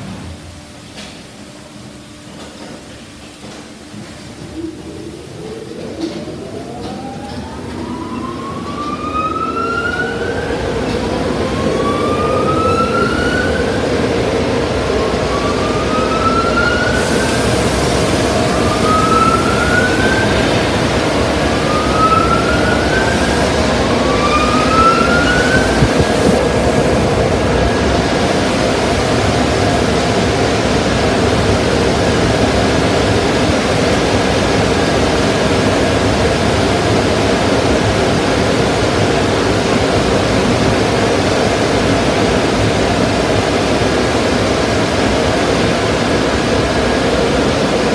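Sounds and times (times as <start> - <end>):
dryer fan motors whining: 0.0 - 47.9
rush of air from blowers: 0.0 - 47.9.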